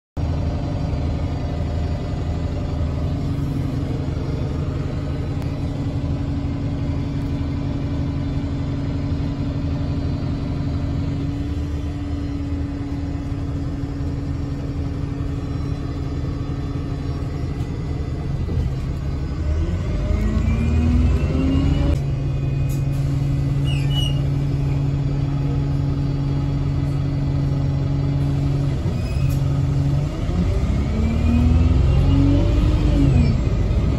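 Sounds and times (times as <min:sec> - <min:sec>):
bus diesel engine droning: 0:00.2 - 0:33.9
rising engine whine: 0:00.2 - 0:33.9.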